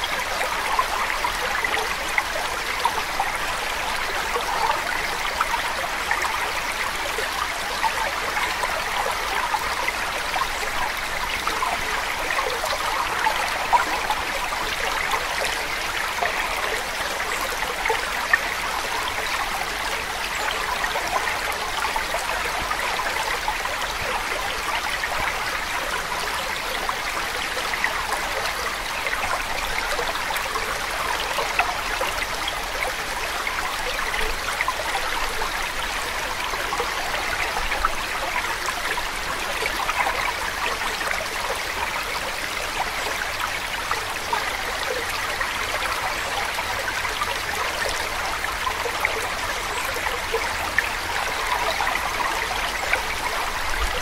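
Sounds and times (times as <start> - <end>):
babbling stream: 0.0 - 54.0.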